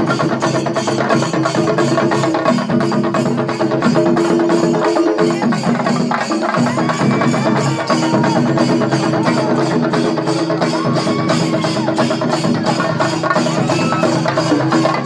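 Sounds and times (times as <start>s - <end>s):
drum ensemble beaten with sticks: 0.0s - 15.0s.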